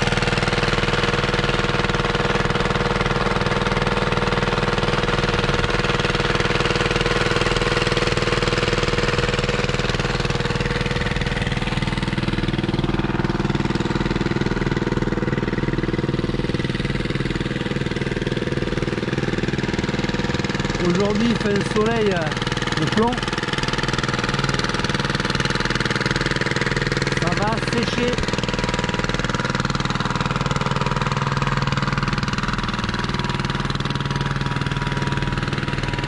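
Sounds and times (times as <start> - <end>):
road roller engine idling: 0.0 - 36.0.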